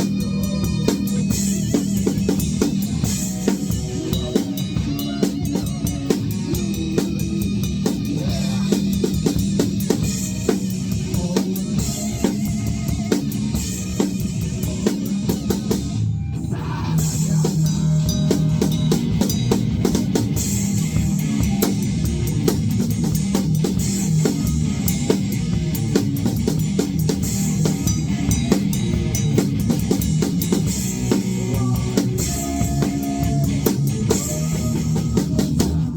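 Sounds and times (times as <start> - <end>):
band playing music: 0.0 - 35.9
guitar: 0.0 - 35.9.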